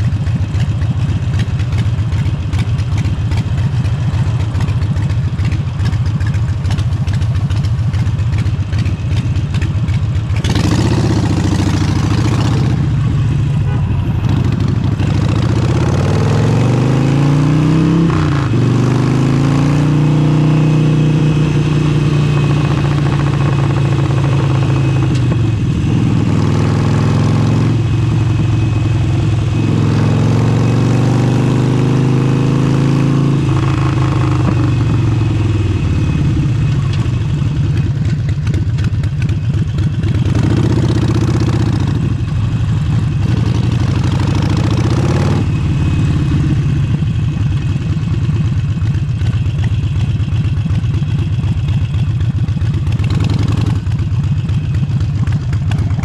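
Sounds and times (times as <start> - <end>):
motorcycle engine idling and pulling away: 0.0 - 56.0.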